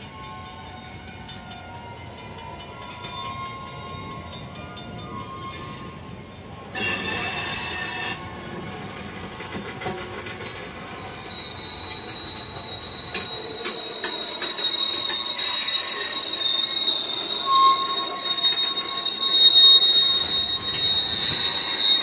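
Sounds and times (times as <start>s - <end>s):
low rumble of rolling freight cars: 0.0s - 22.0s
train wheels squealing: 0.0s - 22.0s.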